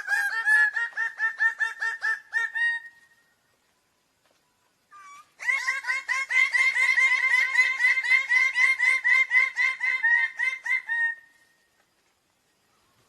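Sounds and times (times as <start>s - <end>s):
bird-of-paradise calling: 0.0s - 11.9s.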